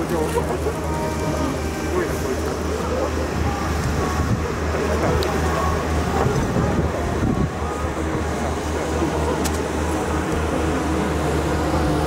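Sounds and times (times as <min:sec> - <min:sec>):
distant voices: 0:00.0 - 0:12.0.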